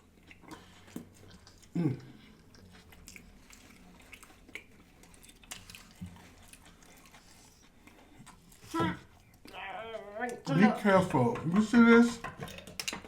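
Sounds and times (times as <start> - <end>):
person chewing: 0.0 - 10.6.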